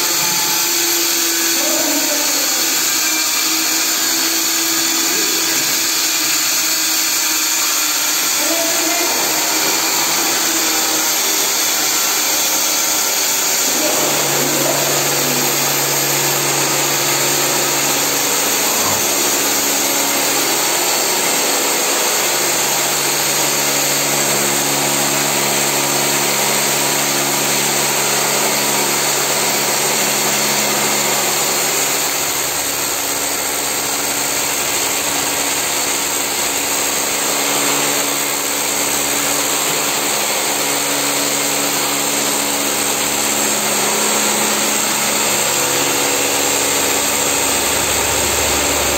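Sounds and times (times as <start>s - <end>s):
electric motor whirring: 0.0s - 48.9s.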